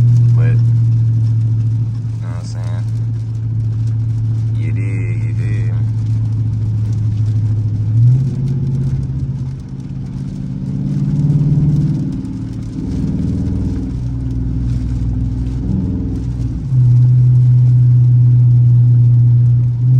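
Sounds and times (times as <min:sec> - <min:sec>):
car engine running while driving: 0:00.0 - 0:19.9.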